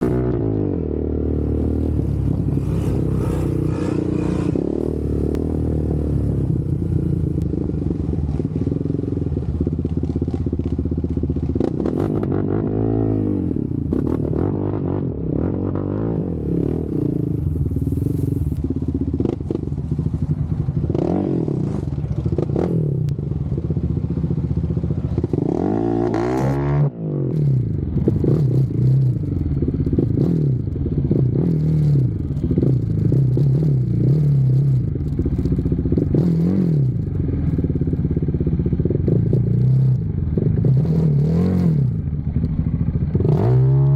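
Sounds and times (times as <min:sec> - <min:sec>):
off-road vehicle engines revving: 0:00.0 - 0:19.8, 0:24.8 - 0:43.9.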